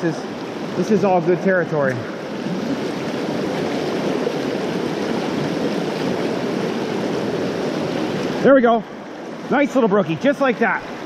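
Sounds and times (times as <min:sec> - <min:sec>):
river water rushing over rapids: 0:00.0 - 0:11.0.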